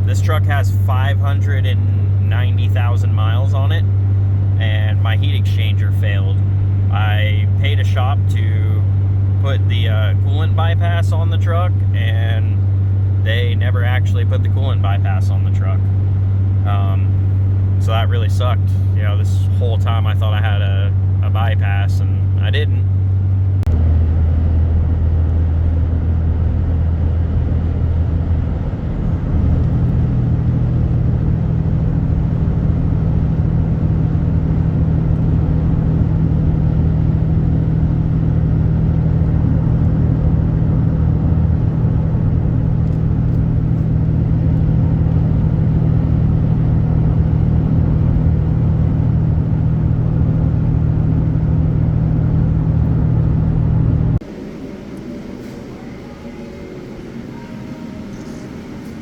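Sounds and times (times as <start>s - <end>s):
truck engine and road drone: 0.0s - 59.0s.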